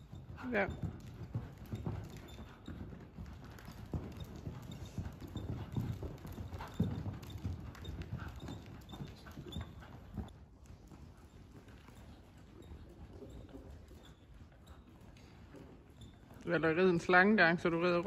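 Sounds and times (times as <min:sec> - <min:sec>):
horse hoofbeats on sand: 0:00.0 - 0:18.0.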